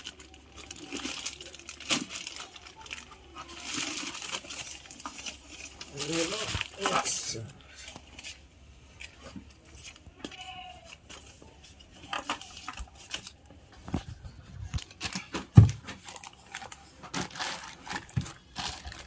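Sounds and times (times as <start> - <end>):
plastic and paper crinkling: 0.0 - 19.0.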